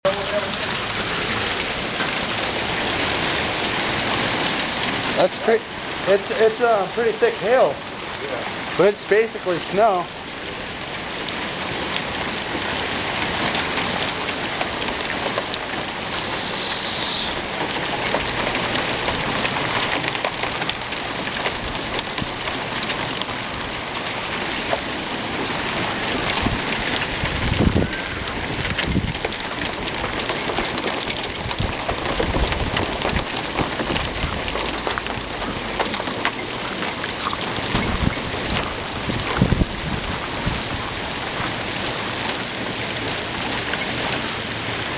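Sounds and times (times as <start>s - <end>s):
hail pattering on ground: 0.0s - 44.9s.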